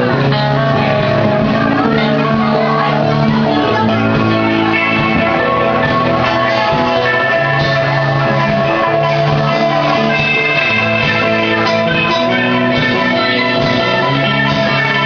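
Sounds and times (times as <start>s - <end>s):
bass line: 0.0s - 15.0s
drum kit: 0.0s - 15.0s
electric guitar: 0.0s - 15.0s.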